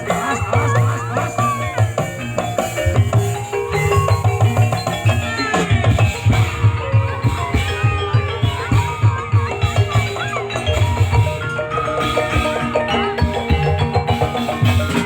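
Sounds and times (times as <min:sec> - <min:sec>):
deep hand-drum strokes: 0:00.0 - 0:15.0
wavering melodic line: 0:00.0 - 0:15.0.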